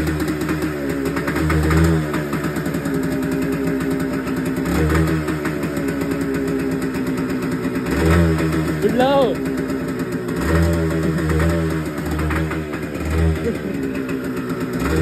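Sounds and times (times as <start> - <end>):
two-stroke motorcycle engine idling: 0.0 - 15.0.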